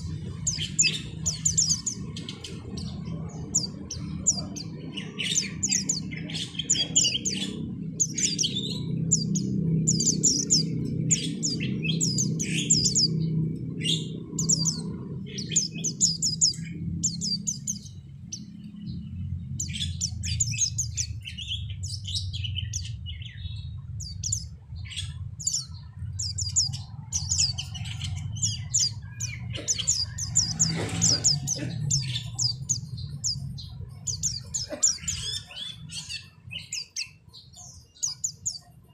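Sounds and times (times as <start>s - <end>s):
steady low hum: 0.0s - 36.8s
birds chirping and twittering: 0.0s - 38.9s.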